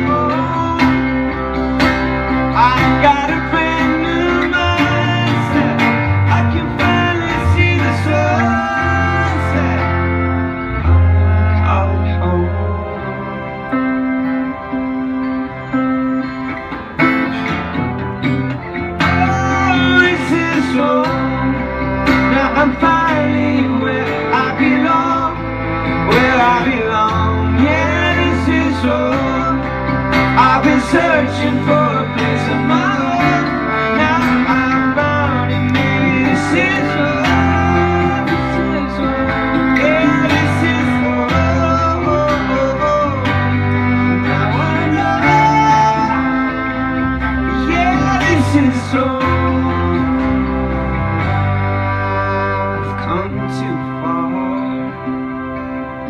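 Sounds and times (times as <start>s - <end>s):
electric guitar melody: 0.0s - 56.0s
pipe organ chords: 0.0s - 56.0s.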